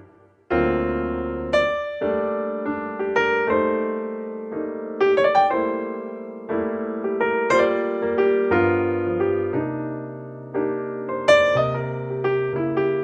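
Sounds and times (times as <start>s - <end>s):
solo piano music: 0.0s - 13.0s.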